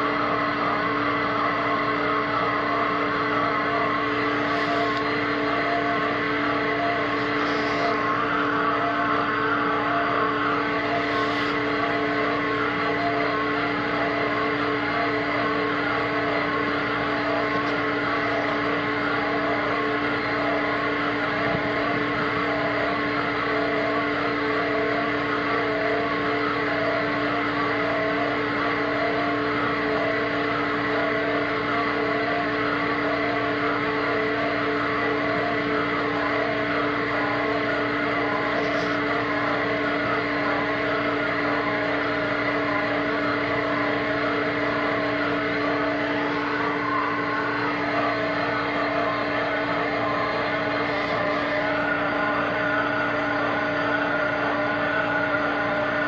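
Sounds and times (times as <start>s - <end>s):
diesel engine and hydraulics running: 0.0s - 56.0s.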